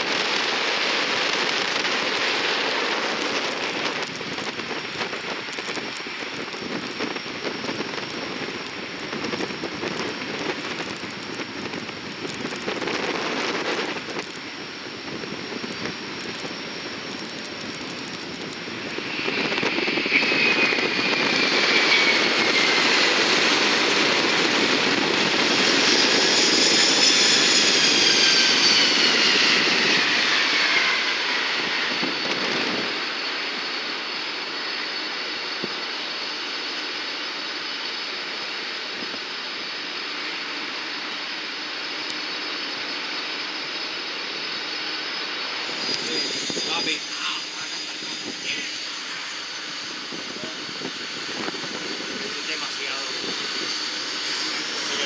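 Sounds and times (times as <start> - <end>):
high engine whine: 0.0 - 55.0
jet aircraft passing: 0.0 - 55.0.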